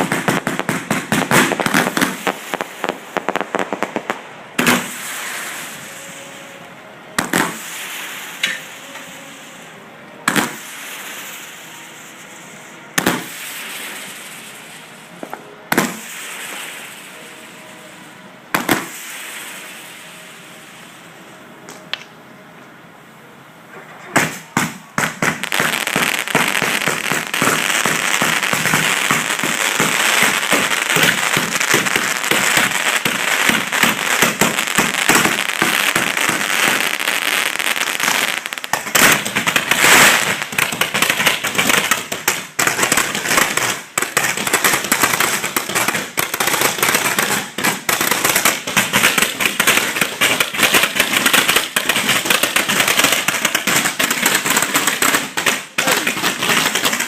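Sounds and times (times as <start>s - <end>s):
fireworks bangs and crackle: 0.0s - 20.9s, 24.0s - 57.0s.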